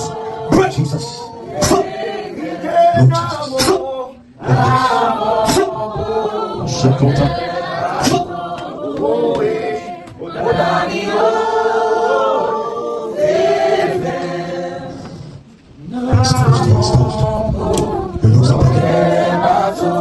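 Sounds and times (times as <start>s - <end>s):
group of voices chanting: 0.0s - 15.2s, 15.8s - 20.0s.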